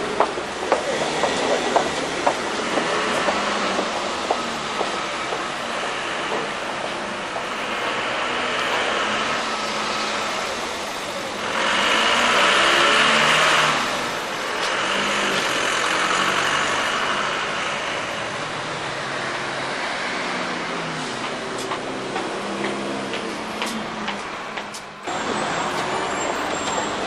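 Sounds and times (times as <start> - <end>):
tyres on the road: 0.0 - 27.0
vehicle engines running: 0.0 - 27.0.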